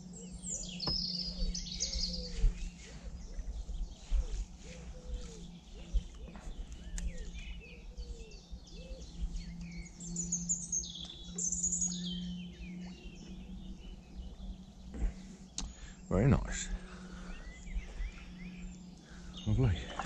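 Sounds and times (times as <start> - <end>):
birds singing and chirping: 0.0 - 20.0.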